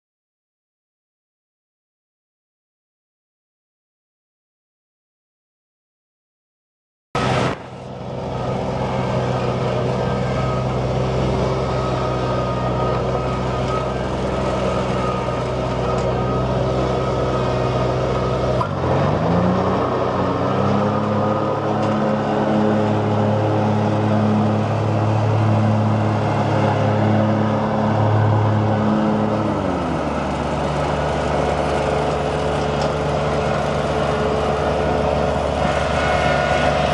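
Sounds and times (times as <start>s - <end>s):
mower diesel engine idling and revving: 7.2s - 36.9s.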